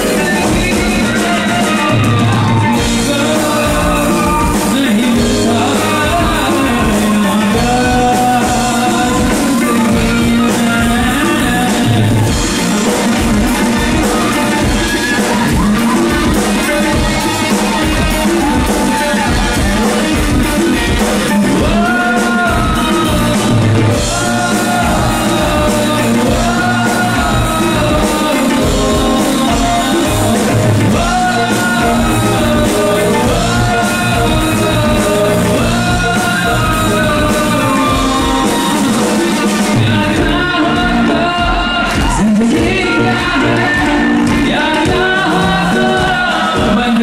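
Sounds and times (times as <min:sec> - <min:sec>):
flute melody: 0:00.0 - 0:47.0
steady backing beat: 0:00.0 - 0:47.0.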